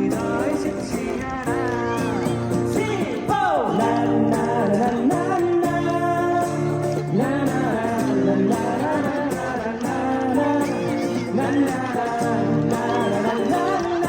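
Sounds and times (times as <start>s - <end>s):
acoustic guitar: 0.0s - 14.0s
person singing: 0.0s - 14.0s.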